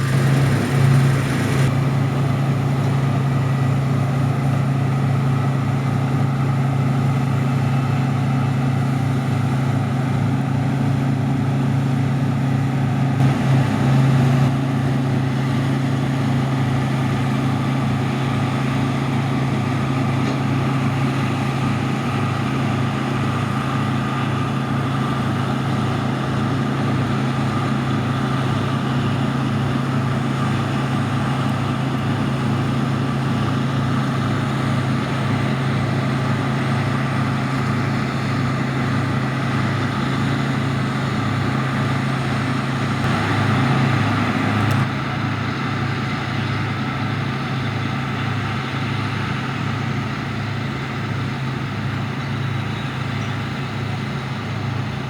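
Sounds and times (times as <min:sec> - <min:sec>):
combine harvester engine hum: 0:00.0 - 0:55.0.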